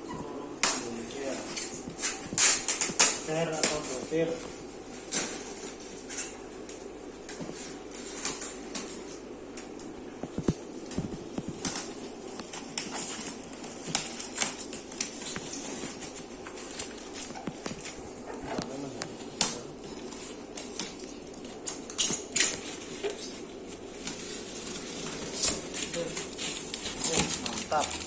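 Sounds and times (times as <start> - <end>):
steady low hum: 0.0 - 28.0
plastic packs clicking and tapping: 0.6 - 28.0.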